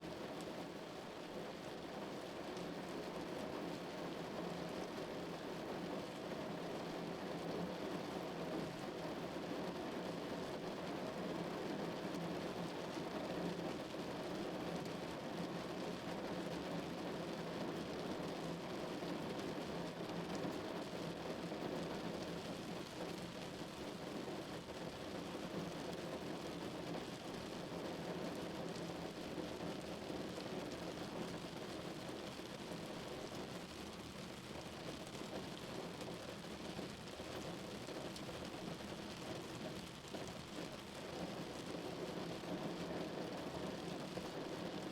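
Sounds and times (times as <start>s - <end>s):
rain on a car body: 0.0s - 44.9s.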